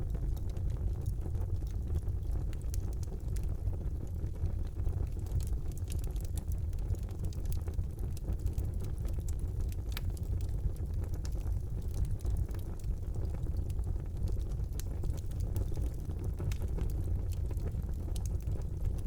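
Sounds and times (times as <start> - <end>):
fire flames rumbling: 0.0 - 19.0
logs crackling and popping: 0.1 - 19.0.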